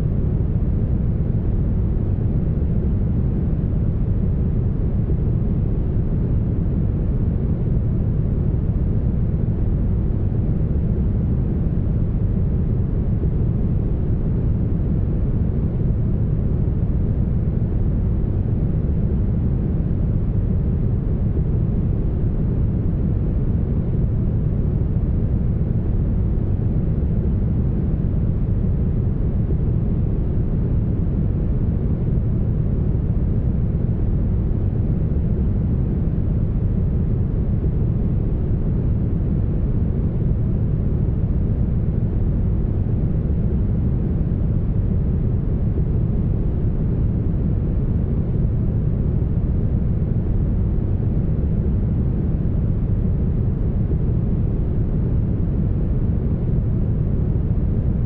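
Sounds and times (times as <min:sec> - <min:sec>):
brown noise rumble: 0:00.0 - 0:58.0.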